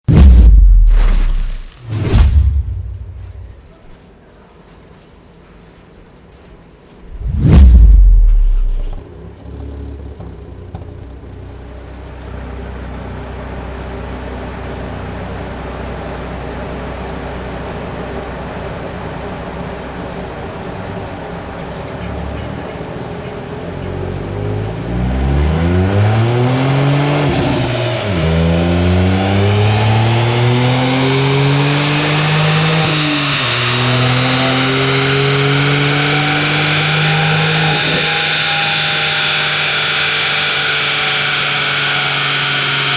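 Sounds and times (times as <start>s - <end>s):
car engine accelerating: 0.0s - 3.8s, 7.0s - 42.9s.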